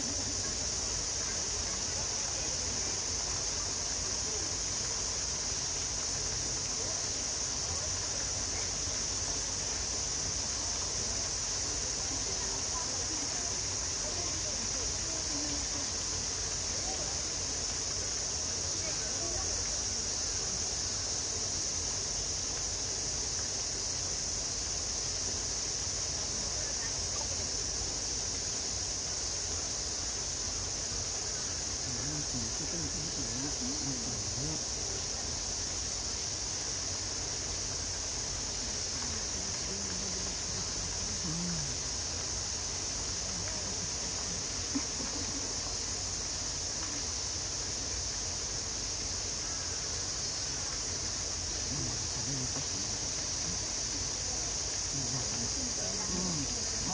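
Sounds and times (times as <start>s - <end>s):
cicadas chorus: 0.0s - 56.9s
faint distant voices: 0.0s - 56.9s.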